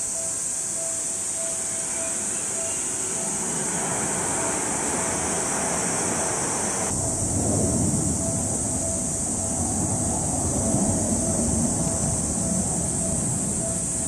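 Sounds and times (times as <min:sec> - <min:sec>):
electric train running rumble: 0:00.0 - 0:14.0
level-crossing warning bell beeps: 0:00.0 - 0:14.0.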